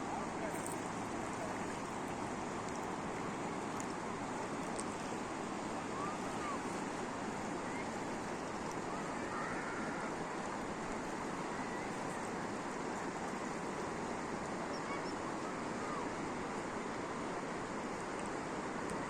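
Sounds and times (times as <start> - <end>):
fast river water rushing: 0.0 - 19.0.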